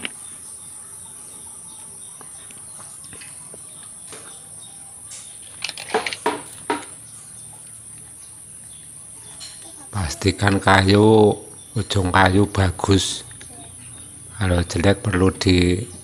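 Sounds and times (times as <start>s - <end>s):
high insect trill: 0.0s - 16.0s.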